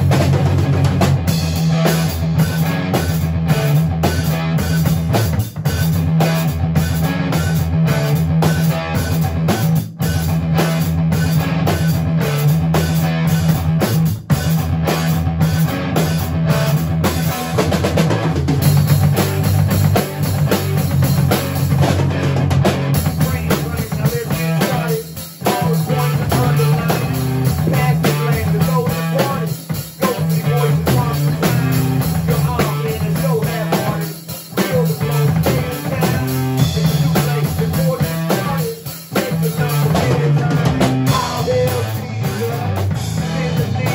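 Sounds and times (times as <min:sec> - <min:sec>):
drum kit: 0:00.0 - 0:43.9
electric guitar: 0:00.0 - 0:43.9.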